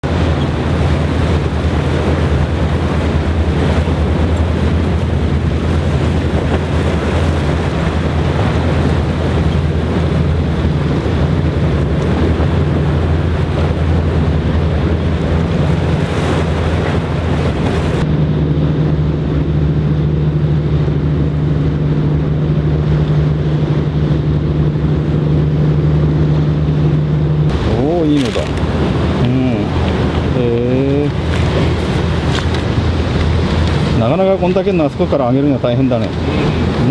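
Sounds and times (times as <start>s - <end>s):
boat engine droning: 0.0s - 36.9s
waves washing: 0.0s - 36.9s
wind noise: 0.0s - 36.9s.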